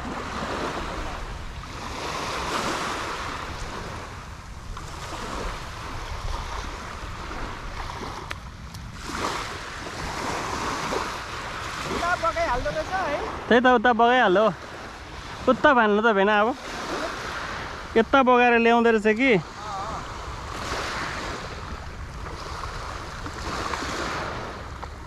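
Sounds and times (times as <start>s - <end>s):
water washing at the shore: 0.0s - 25.0s
wind rumbling on microphone: 0.0s - 25.0s.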